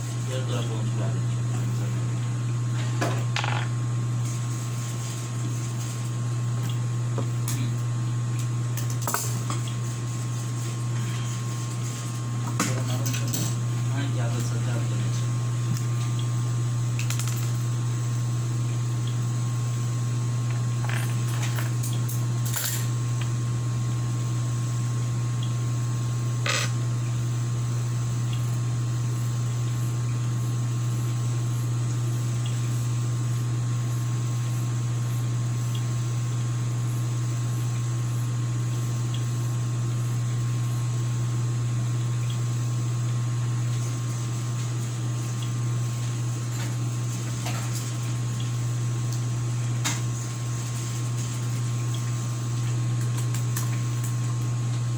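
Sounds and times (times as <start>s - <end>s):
electric motor hum: 0.0s - 54.9s.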